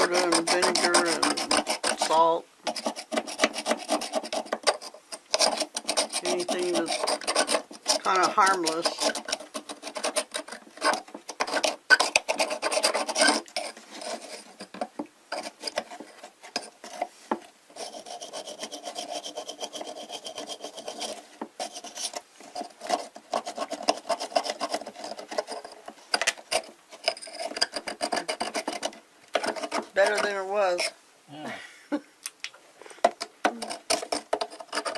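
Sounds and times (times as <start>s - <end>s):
brush scrubbing hard scale: 0.0s - 14.7s, 15.3s - 25.7s, 26.5s - 31.0s.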